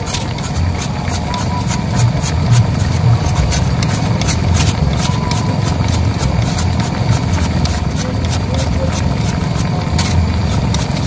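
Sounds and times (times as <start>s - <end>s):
knife scraping sugar block: 0.0s - 11.0s
steady low rumble: 0.5s - 11.0s.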